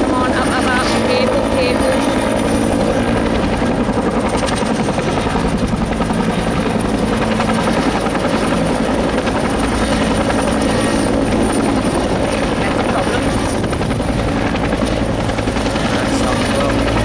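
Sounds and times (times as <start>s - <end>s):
helicopter rotor chopping: 0.0s - 17.0s
high turbine whine: 0.0s - 17.0s.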